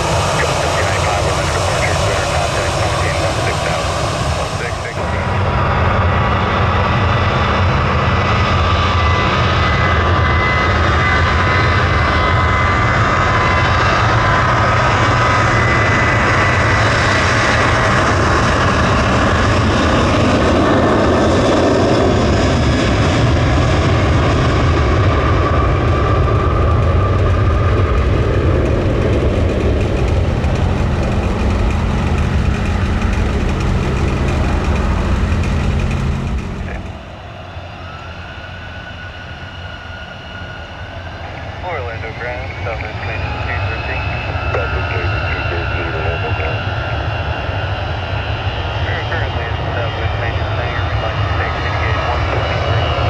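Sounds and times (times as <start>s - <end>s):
jet engine low rumble: 0.0s - 53.0s
jet turbine whine: 0.0s - 53.0s.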